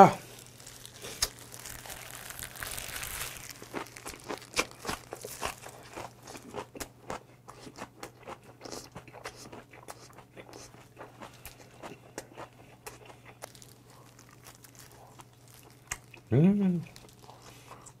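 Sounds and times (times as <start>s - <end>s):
close-miked wet chewing: 0.3s - 18.0s.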